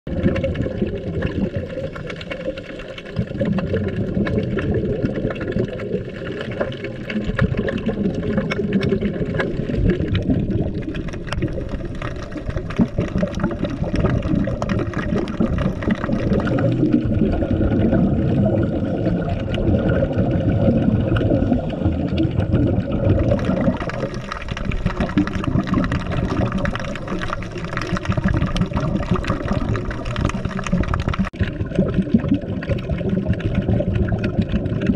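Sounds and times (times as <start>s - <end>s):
underwater rushing and bubbling: 0.1s - 34.9s.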